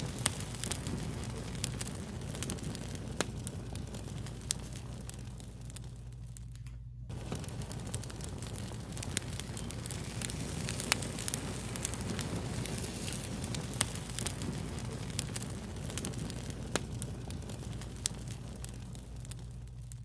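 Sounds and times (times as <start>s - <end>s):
fire crackling: 0.0s - 20.0s
low steady hum: 0.0s - 20.0s.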